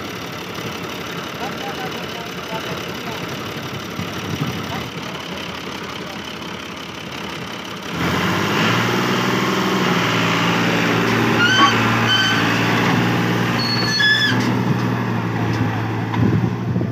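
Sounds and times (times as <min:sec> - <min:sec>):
tractor diesel engine under load: 0:00.0 - 0:16.9.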